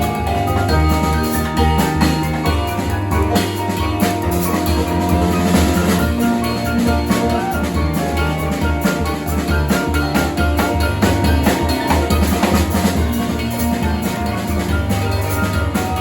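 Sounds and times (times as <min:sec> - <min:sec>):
drum kit hits: 0:00.0 - 0:16.0
low bass line: 0:00.0 - 0:16.0
piano and keyboard chords: 0:00.0 - 0:16.0.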